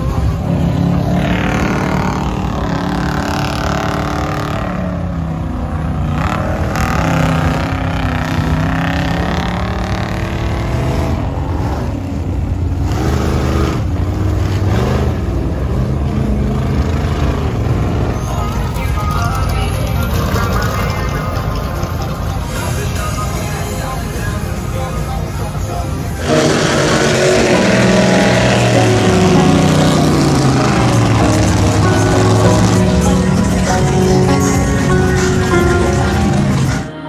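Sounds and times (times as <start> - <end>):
truck engines revving: 0.0 - 37.0.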